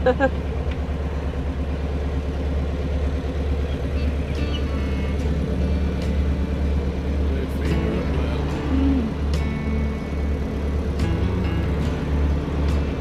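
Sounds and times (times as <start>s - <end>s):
boat engine running steadily: 0.0s - 13.0s.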